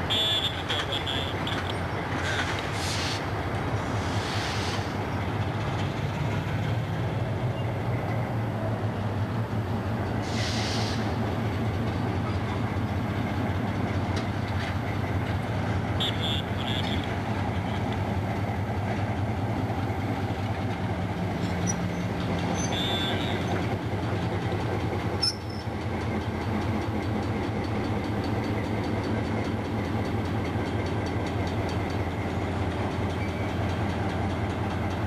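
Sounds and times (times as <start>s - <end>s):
diesel locomotive engines running: 0.0s - 35.0s.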